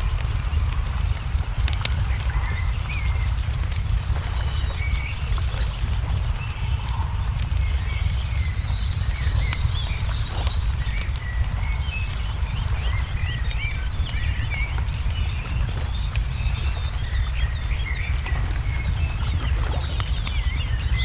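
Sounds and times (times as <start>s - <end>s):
small birds chirping: 0.0s - 21.0s
wood fire crackling: 0.0s - 21.0s.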